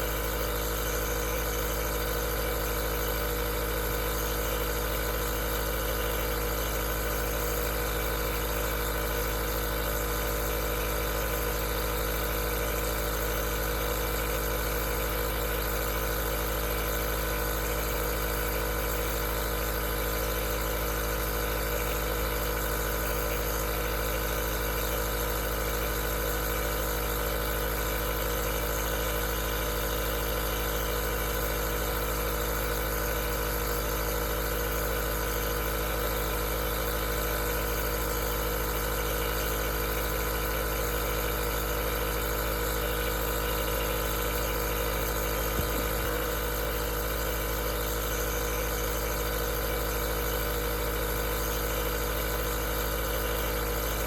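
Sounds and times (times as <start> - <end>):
nebulizer compressor humming: 0.0 - 54.0.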